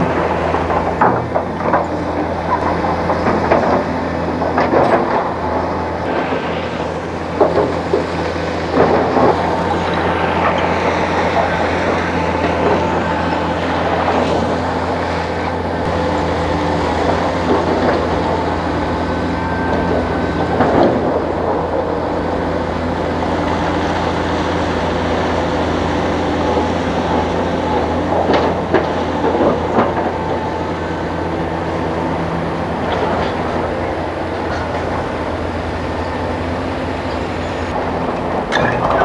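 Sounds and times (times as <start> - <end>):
heavy diesel engine running: 0.0 - 39.0.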